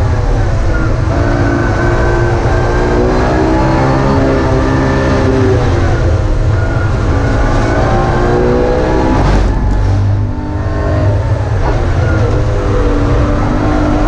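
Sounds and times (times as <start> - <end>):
car engine running hard: 0.0 - 14.0
engine rasp: 0.0 - 14.0.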